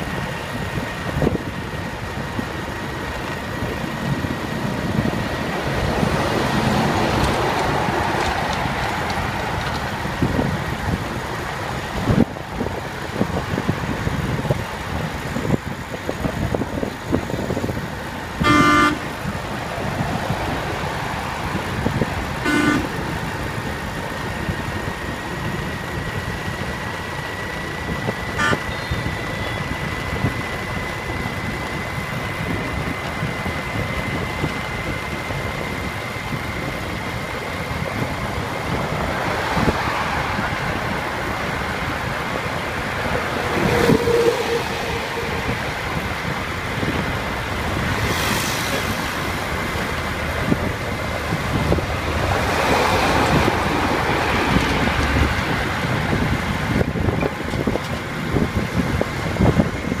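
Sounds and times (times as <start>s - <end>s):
vehicles passing: 0.0s - 60.0s
wind and road noise: 0.0s - 60.0s.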